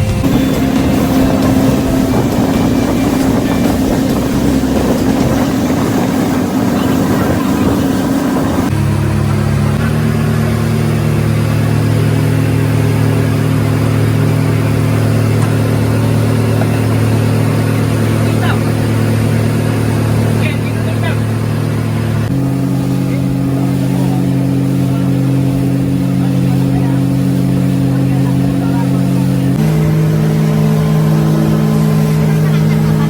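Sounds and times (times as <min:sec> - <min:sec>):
motor engine running: 0:00.0 - 0:33.0.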